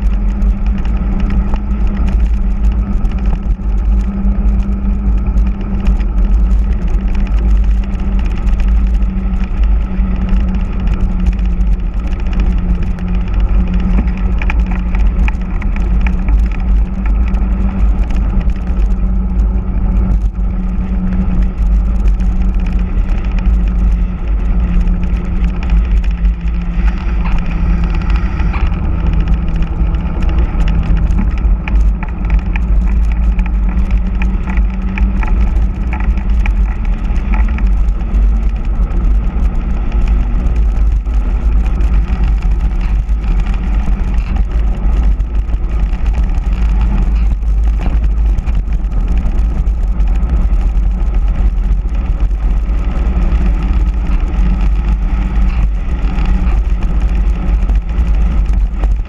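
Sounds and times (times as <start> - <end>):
tyres humming on asphalt: 0.0 - 59.0
wind buffeting microphone: 0.0 - 59.0.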